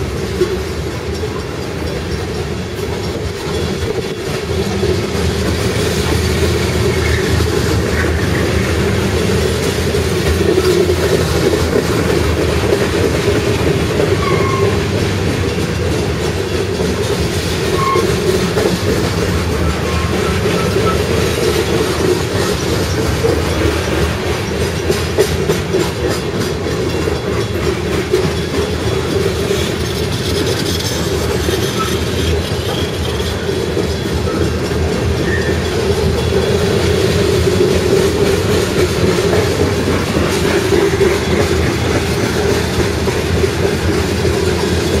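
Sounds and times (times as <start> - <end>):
train wheels rolling on rail: 0.0 - 45.0
wheels clacking over rail joints: 0.0 - 45.0.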